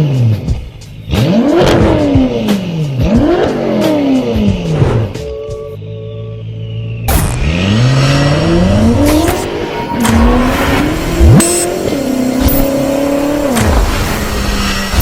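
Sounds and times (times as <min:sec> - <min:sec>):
car engine revving: 0:00.0 - 0:05.3, 0:07.0 - 0:15.0.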